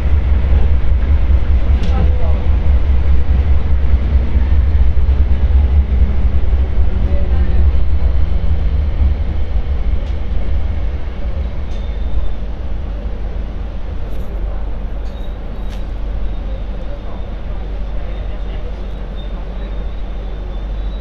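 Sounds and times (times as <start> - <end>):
light rail train rumble: 0.0 - 21.0
rail noise: 0.0 - 21.0.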